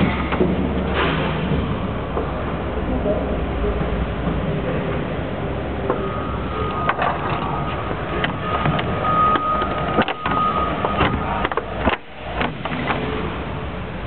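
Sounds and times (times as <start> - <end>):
car engine rumbling: 0.0 - 14.0
engine knocks and clicks: 0.0 - 14.0.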